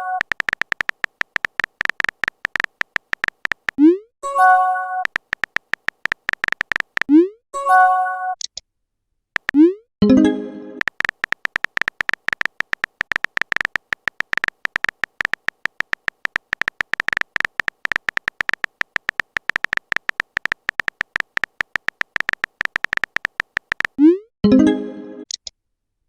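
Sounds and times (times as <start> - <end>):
rapid high-pitched typing blips: 0.0 - 7.3, 9.4 - 9.8, 10.8 - 24.2.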